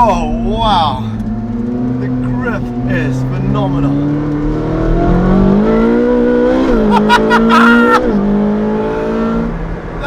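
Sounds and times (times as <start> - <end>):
sports car engine accelerating: 0.0 - 10.0.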